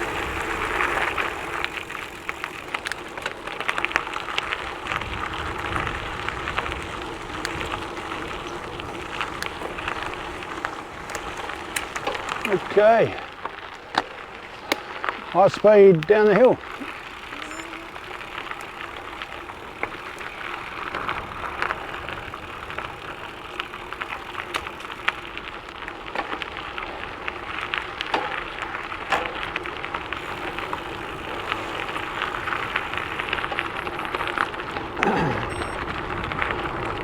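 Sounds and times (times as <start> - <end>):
bike clicks and rattles: 0.0 - 37.0
bike tyres rolling fast: 0.0 - 37.0.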